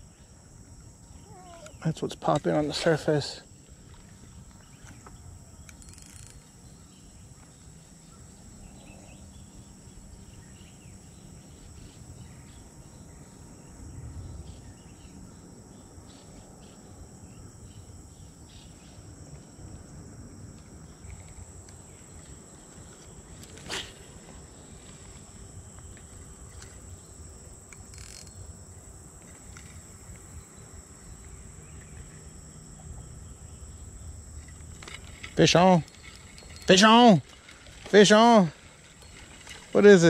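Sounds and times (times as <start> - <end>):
insects chirring: 0.0 - 40.0.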